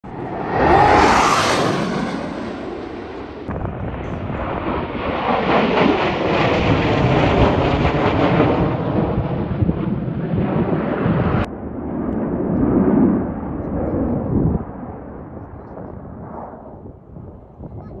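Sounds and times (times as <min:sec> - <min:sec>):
jets flying over: 0:00.0 - 0:17.5.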